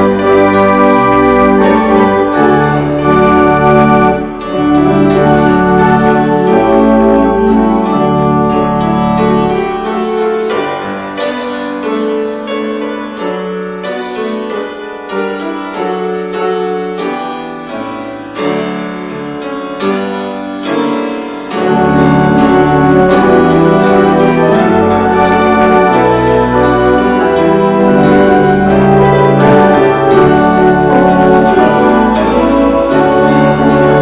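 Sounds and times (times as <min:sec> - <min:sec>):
instrumental hymn on piano: 0:00.0 - 0:34.0.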